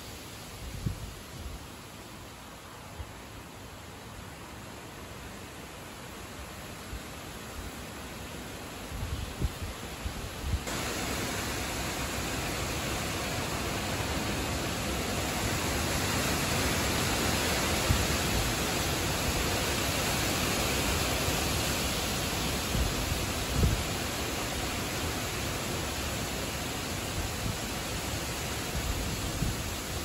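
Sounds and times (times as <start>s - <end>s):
wind rustling tree foliage: 0.0s - 30.0s.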